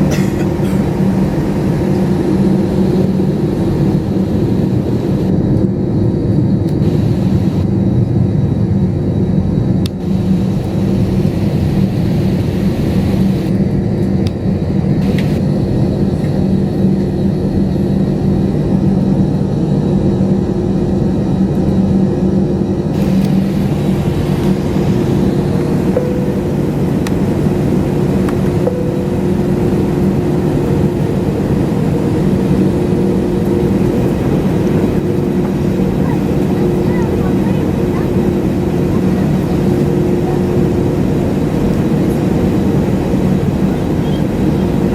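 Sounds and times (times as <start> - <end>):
jet engines rumbling in cabin: 0.0 - 44.9
steady hum tones: 0.0 - 44.9.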